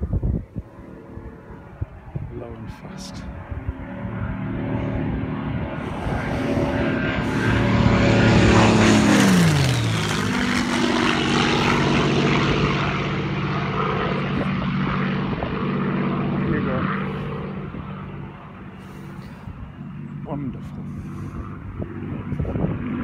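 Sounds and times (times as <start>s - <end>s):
propeller plane passing overhead: 0.0s - 23.0s.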